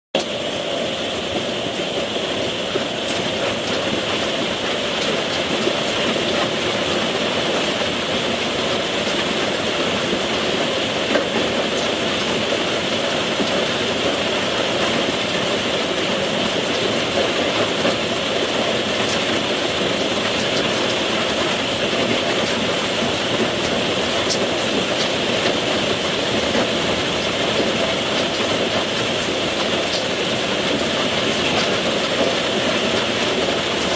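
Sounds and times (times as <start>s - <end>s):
steady rain: 0.2s - 33.9s.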